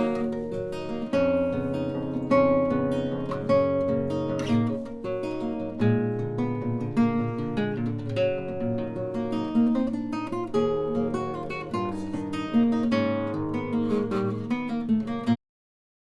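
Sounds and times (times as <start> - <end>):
acoustic guitar strumming: 0.0 - 15.4.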